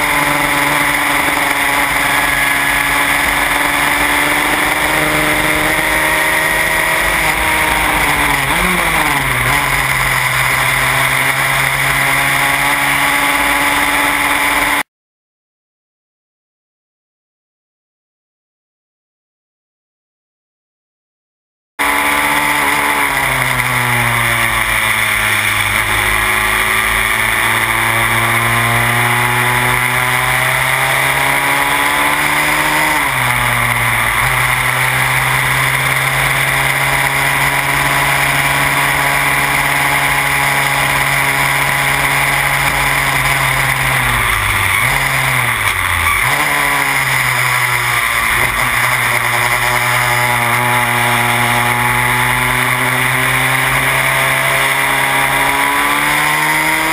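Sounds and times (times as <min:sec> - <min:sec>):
race car engine running hard: 0:00.0 - 0:14.8, 0:21.8 - 0:56.9.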